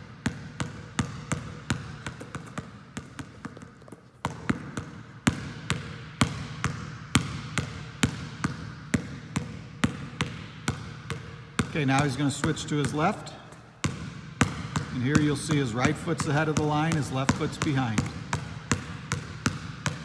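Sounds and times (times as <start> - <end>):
basketball bouncing in a gym: 0.0 - 20.0.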